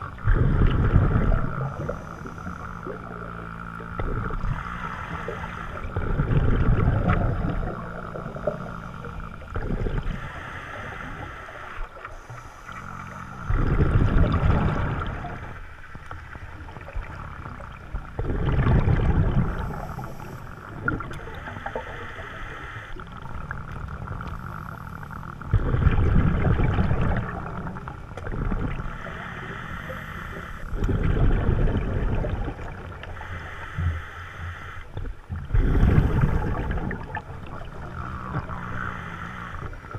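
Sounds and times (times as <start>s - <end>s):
exhaled bubbles underwater: 0.0s - 39.9s.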